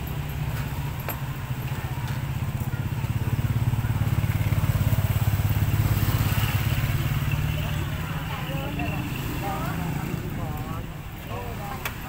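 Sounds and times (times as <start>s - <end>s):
small motorcycle engine running: 0.0s - 10.9s.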